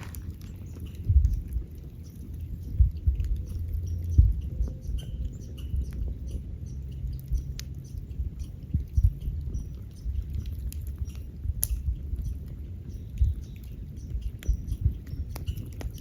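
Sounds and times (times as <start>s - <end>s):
low rumble: 0.0s - 16.0s
wood fire crackling and popping: 0.0s - 16.0s.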